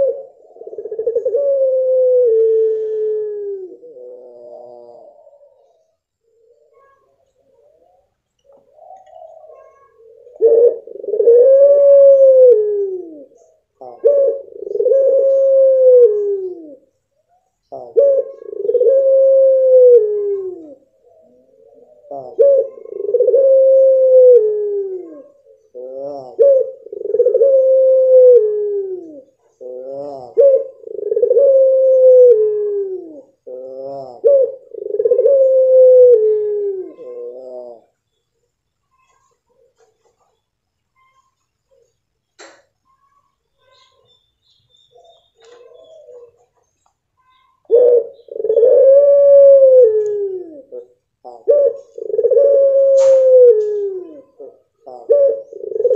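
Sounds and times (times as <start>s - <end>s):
dove long call: 0.0s - 38.0s, 45.0s - 46.6s, 47.2s - 55.9s.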